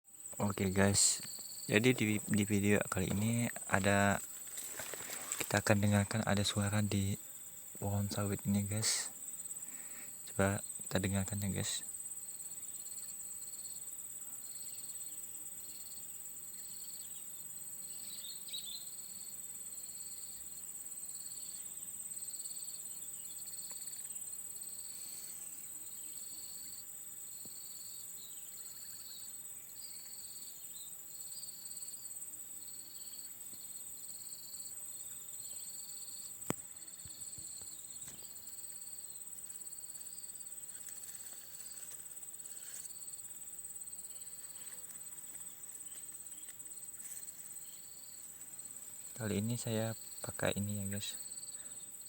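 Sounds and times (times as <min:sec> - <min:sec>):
insect high-pitched trill: 0:00.0 - 0:52.0.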